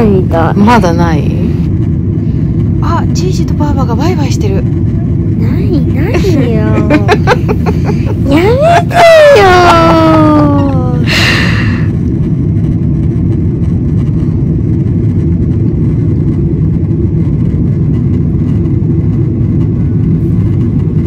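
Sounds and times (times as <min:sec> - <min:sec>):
jet engines rumbling: 0:00.0 - 0:21.0
rushing air: 0:01.4 - 0:02.9, 0:04.6 - 0:21.0.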